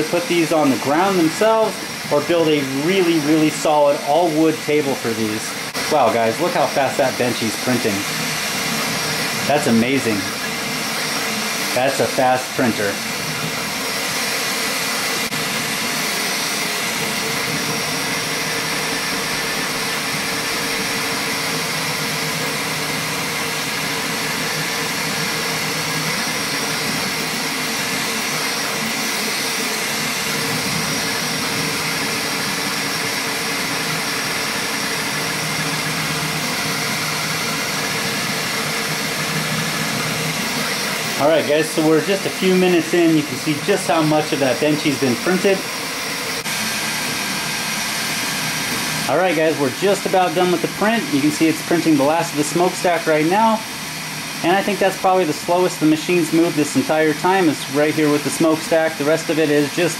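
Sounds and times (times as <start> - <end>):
printer fans and motors whirring: 0.0 - 59.9.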